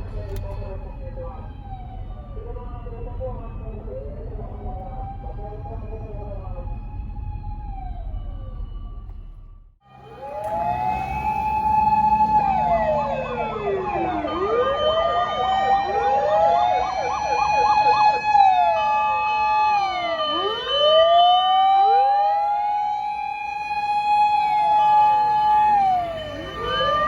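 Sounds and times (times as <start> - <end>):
fire engine sirens wailing: 0.0 - 27.0
rapid siren yelp: 0.5 - 27.0.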